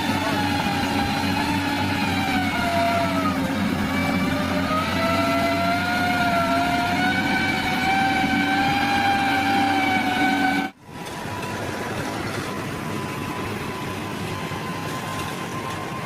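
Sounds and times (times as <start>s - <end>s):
construction machine engine running: 0.0s - 16.0s
high whine rising in pitch: 0.0s - 16.0s.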